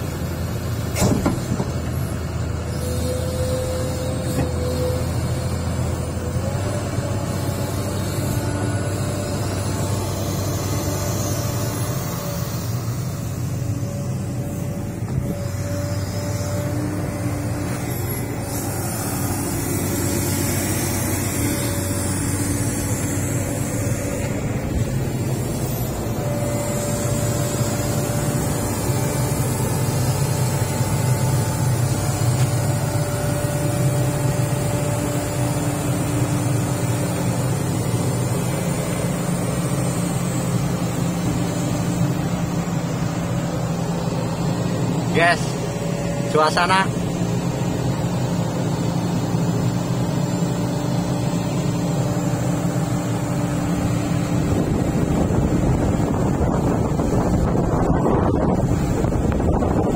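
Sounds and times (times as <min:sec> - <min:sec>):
excavator diesel engine running: 0:00.0 - 0:59.9
even whine: 0:02.6 - 0:59.9.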